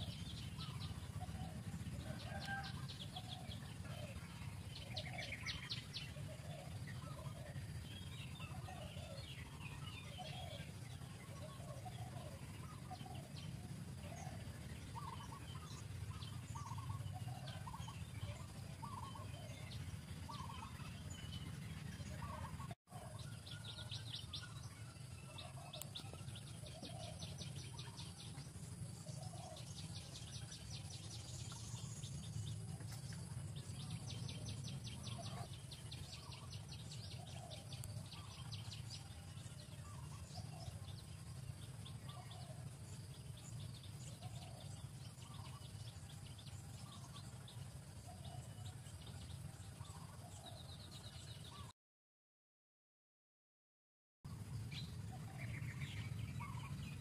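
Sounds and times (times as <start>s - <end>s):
birds chirping: 0.0s - 51.7s, 54.3s - 57.0s
steady low rumble: 0.0s - 51.7s.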